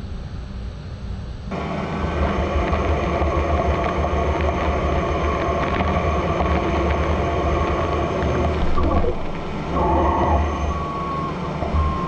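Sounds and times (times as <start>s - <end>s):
lathe machining hum: 1.5s - 12.0s.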